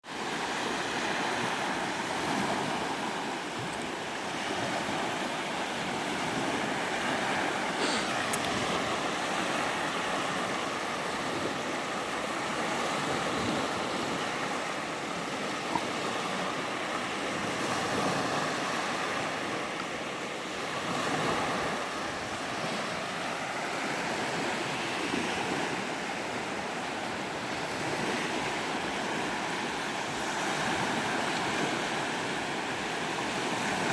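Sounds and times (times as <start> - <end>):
sea waves breaking: 0.0 - 33.9.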